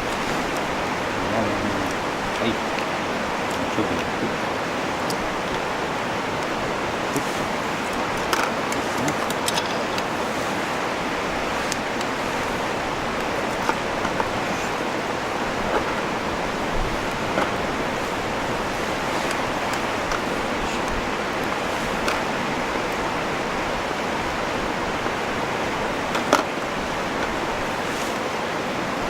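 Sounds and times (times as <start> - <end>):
steady rushing hiss: 0.0 - 29.0.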